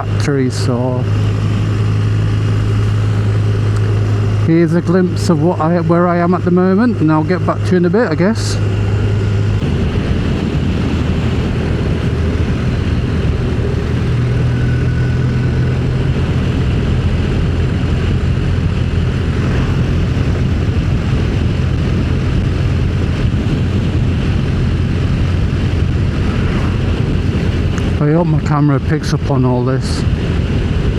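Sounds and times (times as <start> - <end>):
motorcycle engine droning: 0.0 - 30.9
road and wind noise: 0.0 - 30.9.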